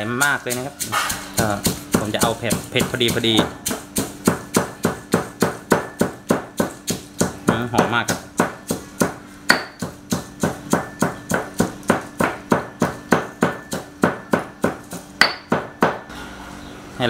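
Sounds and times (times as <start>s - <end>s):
pestle pounding in stone mortar: 0.0s - 16.1s.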